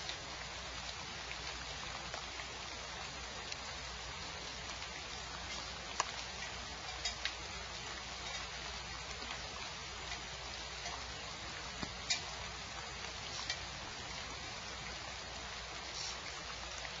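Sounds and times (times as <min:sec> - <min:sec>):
rain hissing on nest box: 0:00.0 - 0:17.0.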